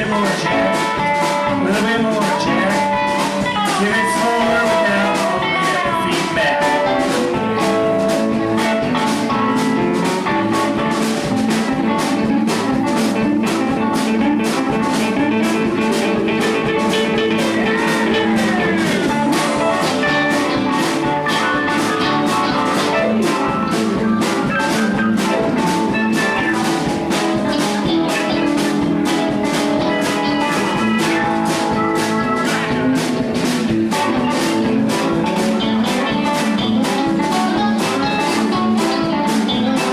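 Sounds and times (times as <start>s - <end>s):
drum kit beat: 0.0s - 39.9s
guitar: 0.0s - 39.9s.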